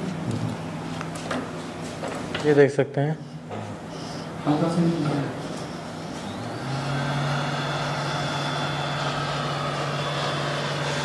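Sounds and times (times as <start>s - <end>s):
hot air station fan hum: 0.0s - 11.0s.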